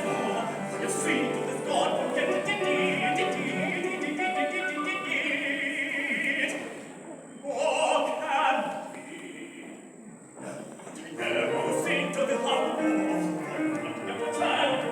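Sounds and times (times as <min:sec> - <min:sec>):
choir singing: 0:00.0 - 0:09.7, 0:11.2 - 0:14.9.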